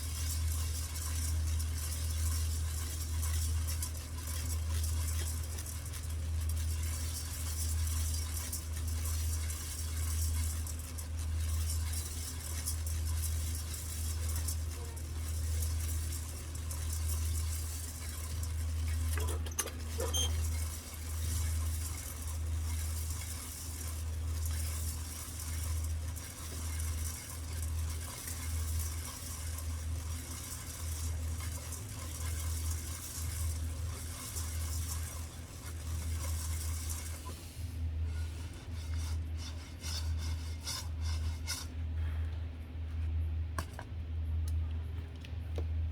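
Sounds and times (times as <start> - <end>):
coffee beans rattling: 0.0 - 41.8
gas burner rumble: 0.0 - 45.9.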